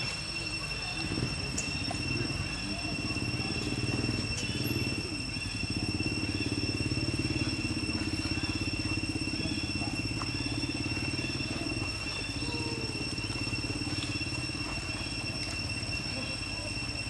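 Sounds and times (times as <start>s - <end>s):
engine idling: 0.0s - 17.0s
high whine: 0.0s - 17.0s.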